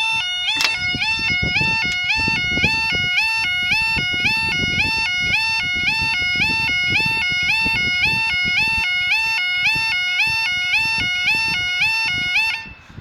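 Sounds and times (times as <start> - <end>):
two-tone warbling crossing alarm: 0.0 - 13.0.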